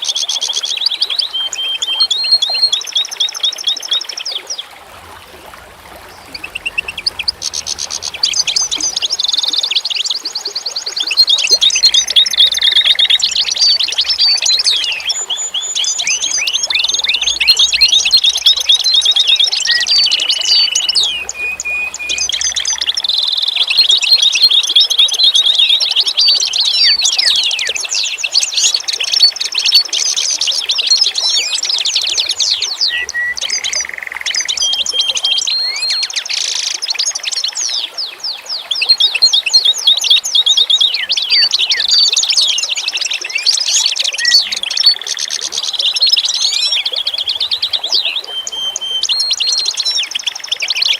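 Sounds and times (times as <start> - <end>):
songbirds chorus: 0.0 - 50.9.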